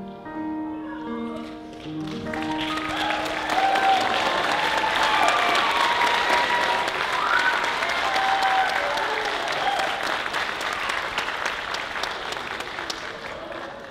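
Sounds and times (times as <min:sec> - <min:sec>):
audience applauding: 0:01.4 - 0:13.9.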